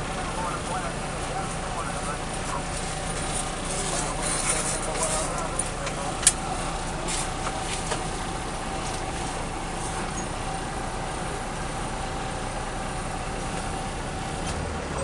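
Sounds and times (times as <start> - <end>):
faint steady whine: 0.0 - 14.4
diesel engine idling: 0.0 - 15.0.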